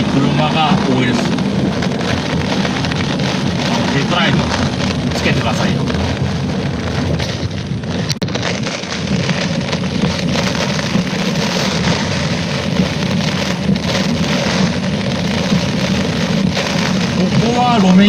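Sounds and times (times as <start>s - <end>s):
heavy rain beating on car: 0.0s - 18.0s
tyre and road noise: 0.0s - 18.0s.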